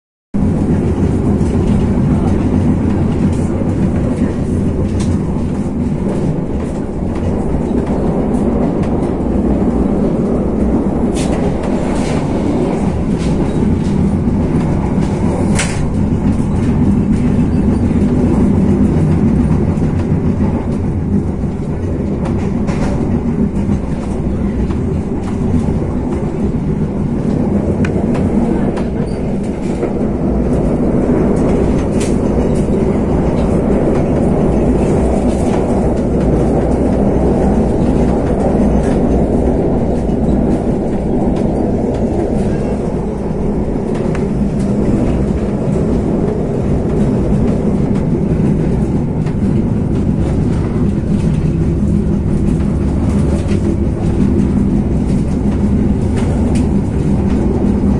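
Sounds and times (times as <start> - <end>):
train wheels rumbling on track: 0.4 - 57.9.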